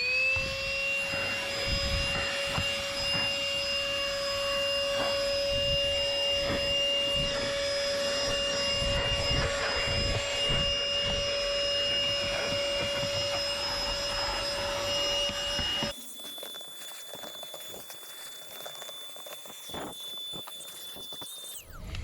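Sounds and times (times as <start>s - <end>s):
handheld vacuum cleaner running: 0.0s - 22.0s.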